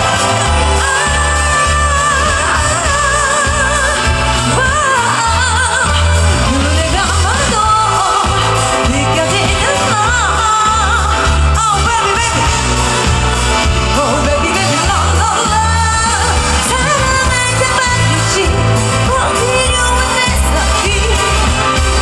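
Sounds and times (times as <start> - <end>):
amplified backing music: 0.0 - 22.0
woman singing into microphone: 0.0 - 22.0.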